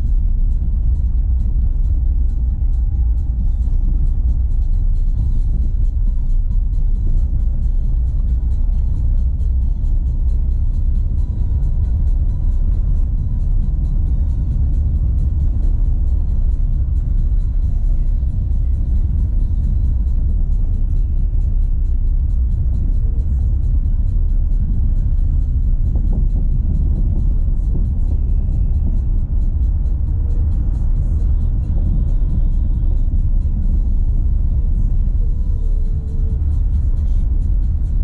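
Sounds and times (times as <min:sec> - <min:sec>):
car driving on dirt road: 0:00.0 - 0:38.0
faint music: 0:00.0 - 0:38.0
tyre and suspension noise: 0:00.0 - 0:38.0.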